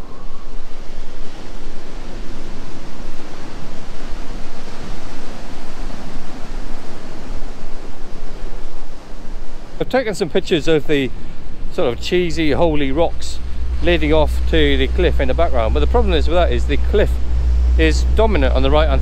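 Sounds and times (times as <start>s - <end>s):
waves breaking on shore: 0.0s - 19.0s
wind buffeting microphone: 0.0s - 19.0s.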